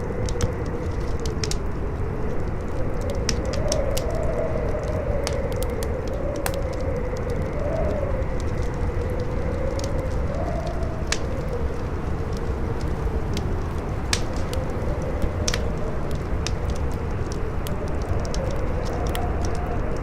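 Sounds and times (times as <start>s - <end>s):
campfire crackling and popping: 0.0s - 20.0s
howling wind: 0.0s - 20.0s.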